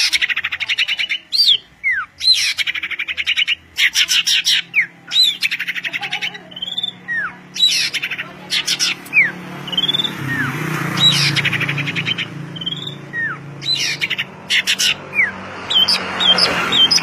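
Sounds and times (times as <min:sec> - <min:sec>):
songbird whistle and trill: 0:00.0 - 0:17.0.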